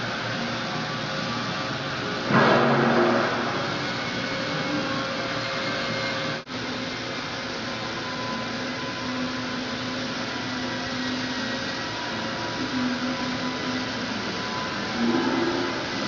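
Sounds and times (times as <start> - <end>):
welding arc buzzing hiss: 0.0 - 16.0.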